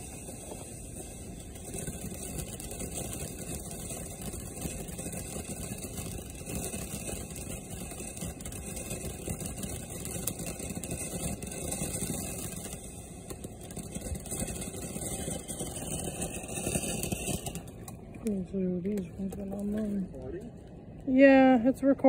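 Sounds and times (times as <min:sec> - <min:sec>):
fireworks spraying sparks: 0:00.0 - 0:21.9.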